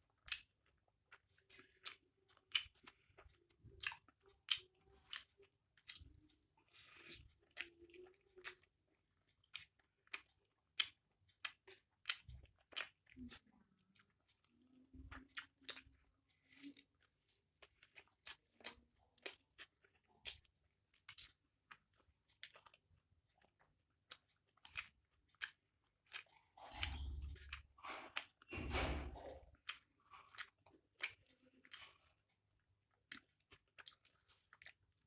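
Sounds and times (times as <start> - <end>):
mouth chewing noodles: 0.0 - 28.5, 29.1 - 35.0.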